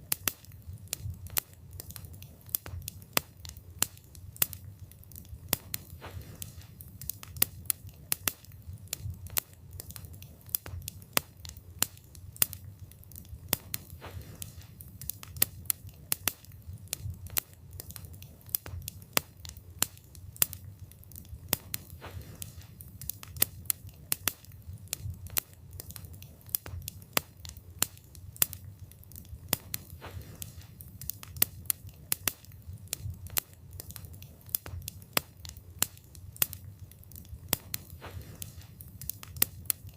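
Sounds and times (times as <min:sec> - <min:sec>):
burning wood snapping and popping: 0:00.0 - 0:39.9
low rumble of flames: 0:00.0 - 0:39.9.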